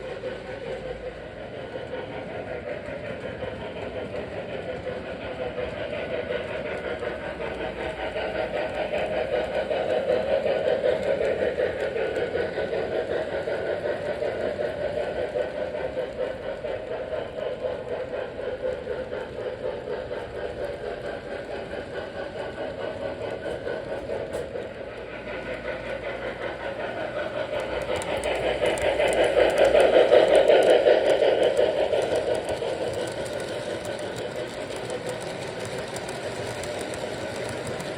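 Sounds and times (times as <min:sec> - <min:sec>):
model train wheels clattering on track: 0:00.0 - 0:37.9.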